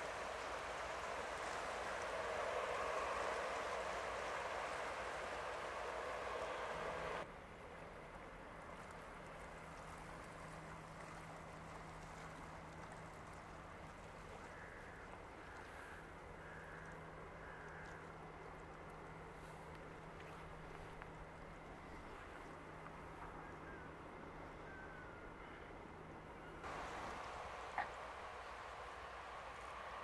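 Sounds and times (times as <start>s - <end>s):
low engine hum: 0.0s - 30.0s.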